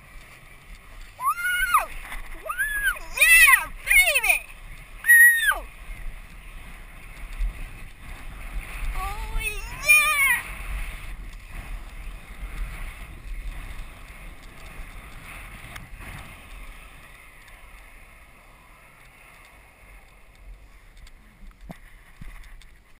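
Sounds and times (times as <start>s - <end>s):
tube sliding on snow: 0.0s - 23.0s
wind rushing over microphone: 0.0s - 23.0s.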